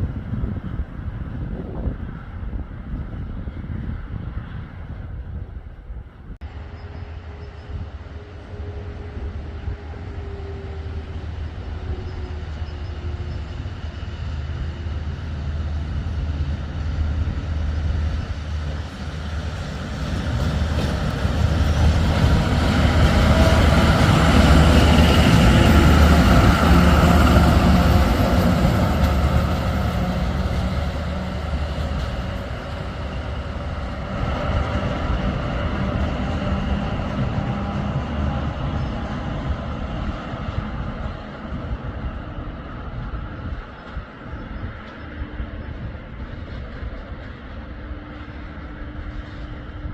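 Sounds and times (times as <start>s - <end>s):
train passing rumble: 0.0s - 49.9s.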